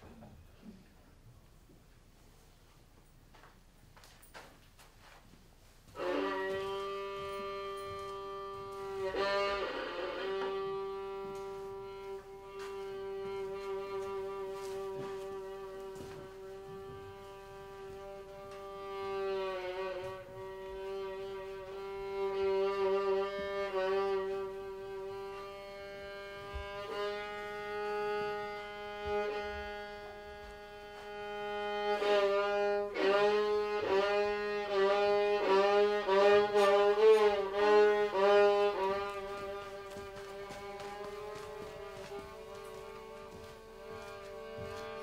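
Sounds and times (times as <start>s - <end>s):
fiddle bowed note: 5.9s - 45.0s.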